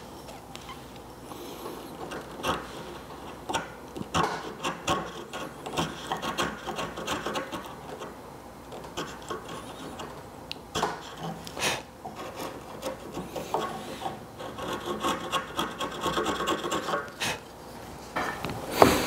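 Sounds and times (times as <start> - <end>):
chisel scraping wood: 1.4 - 10.2, 10.8 - 17.4.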